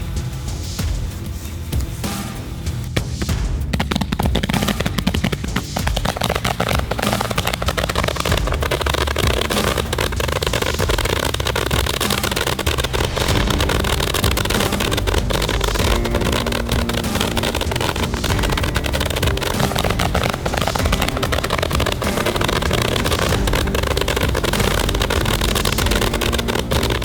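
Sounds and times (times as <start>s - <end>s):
heavy rumble: 2.8s - 27.0s
roman candles popping: 3.0s - 27.0s.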